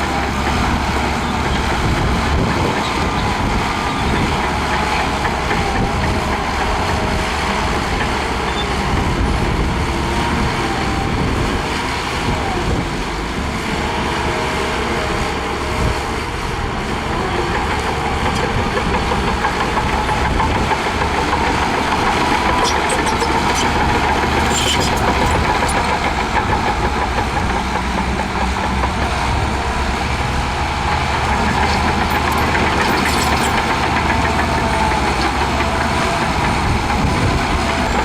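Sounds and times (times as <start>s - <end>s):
heavy diesel machinery running: 0.0s - 38.0s.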